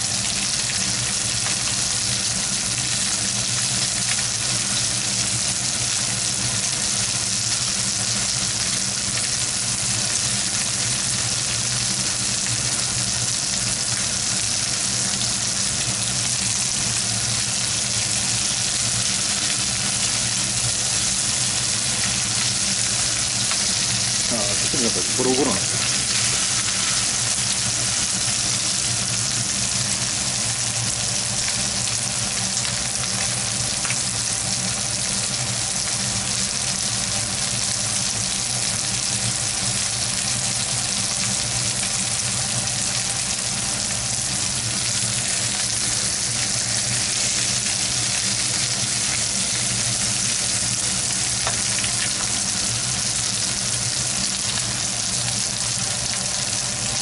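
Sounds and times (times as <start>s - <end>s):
meat sizzling in a frying pan: 0.0s - 57.0s.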